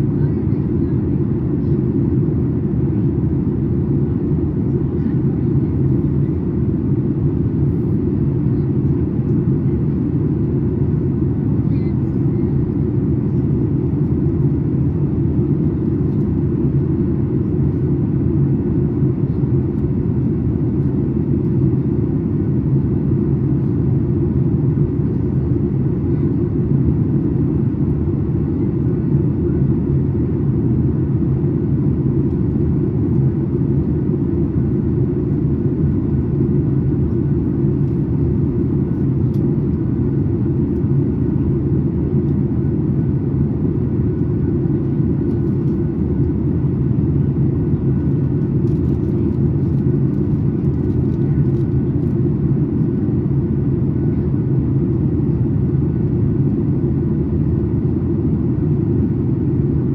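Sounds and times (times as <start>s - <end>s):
airliner cabin rumble: 0.0s - 53.5s, 54.3s - 59.9s.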